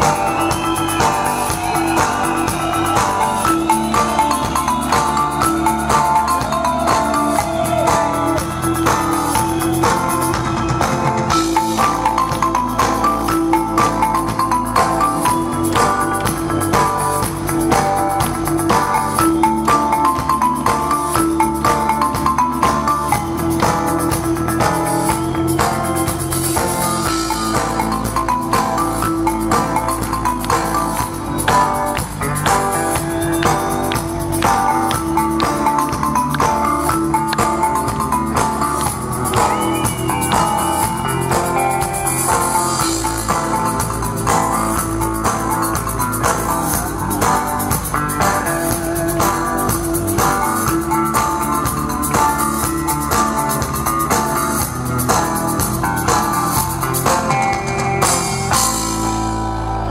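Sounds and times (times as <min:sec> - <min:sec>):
steady drum beat: 0:00.0 - 0:59.2
bass: 0:00.0 - 0:59.9
electric guitars: 0:00.0 - 0:59.9.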